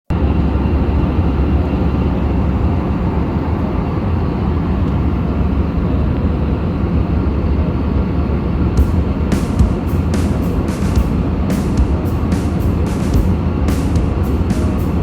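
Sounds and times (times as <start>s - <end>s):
airliner cabin rumble: 0.1s - 15.0s.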